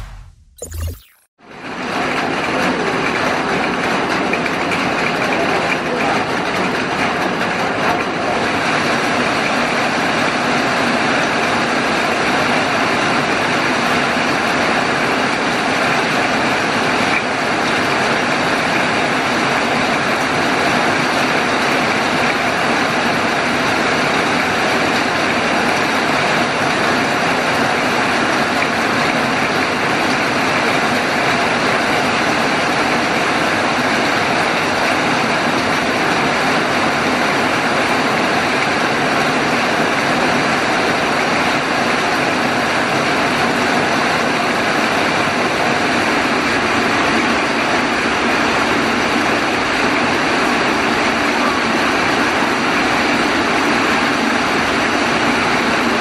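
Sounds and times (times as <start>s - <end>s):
heavy rain pouring: 1.7s - 56.0s.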